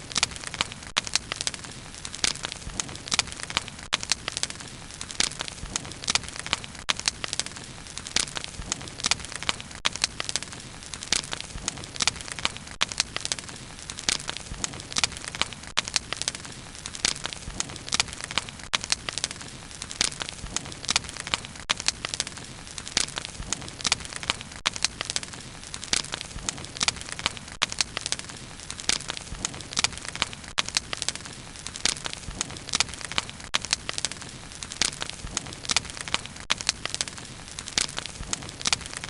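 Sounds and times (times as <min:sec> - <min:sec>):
bonfire crackling: 0:00.0 - 0:39.0.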